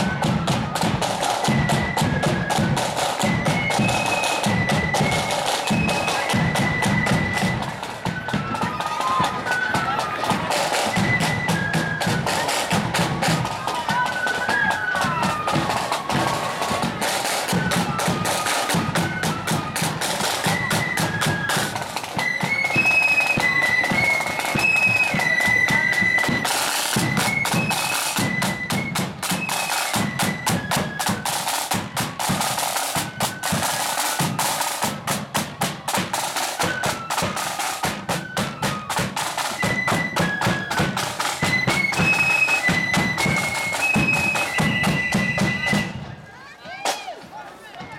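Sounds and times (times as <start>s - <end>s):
high flute melody: 0.0s - 47.2s
side drums beating: 0.0s - 47.9s.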